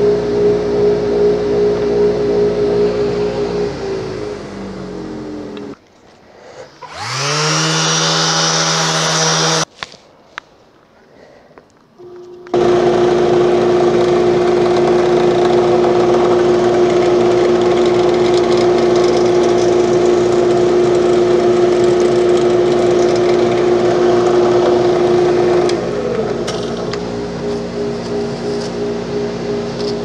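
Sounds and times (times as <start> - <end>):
woodworking machine humming: 0.0 - 5.8, 6.6 - 9.7, 12.2 - 30.0.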